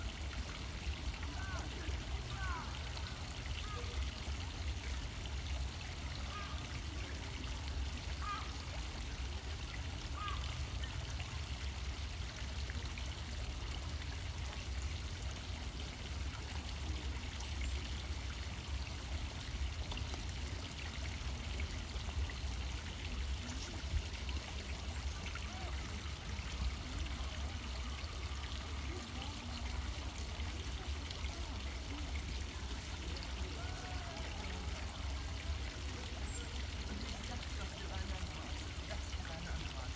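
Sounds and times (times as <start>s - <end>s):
running water splashing: 0.0s - 39.9s.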